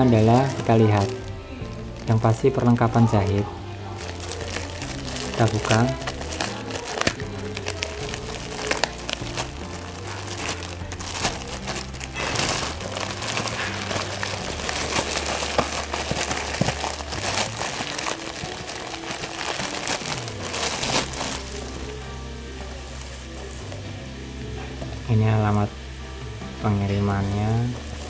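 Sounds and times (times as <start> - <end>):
plastic wrapping crinkling: 0.0 - 23.8, 27.7 - 28.0
background music: 0.0 - 28.0.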